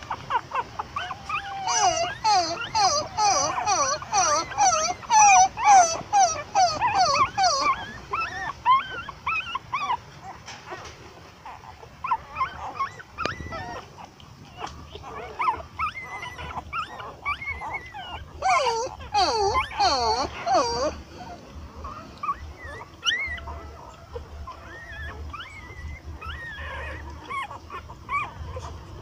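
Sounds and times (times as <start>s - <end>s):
puppies squeaking and whimpering: 0.0s - 29.0s.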